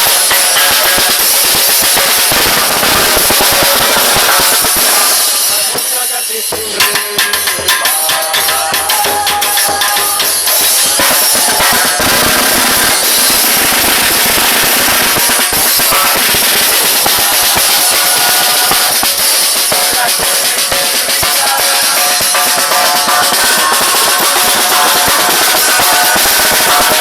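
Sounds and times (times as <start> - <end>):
percussion playing carnival beat: 0.0 - 27.0.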